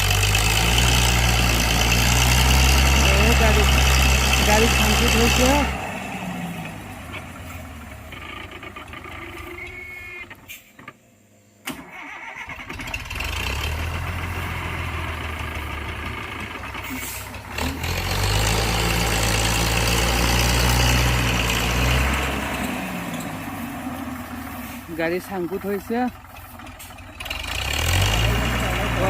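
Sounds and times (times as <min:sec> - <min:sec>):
heavy vehicle engine running: 0:00.0 - 0:11.3, 0:12.0 - 0:29.0.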